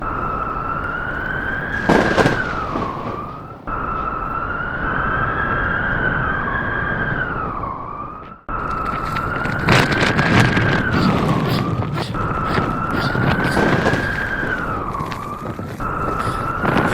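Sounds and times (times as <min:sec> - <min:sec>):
sharp cracks: 0:00.0 - 0:05.8, 0:08.6 - 0:16.9
blizzard wind howling: 0:00.0 - 0:16.9.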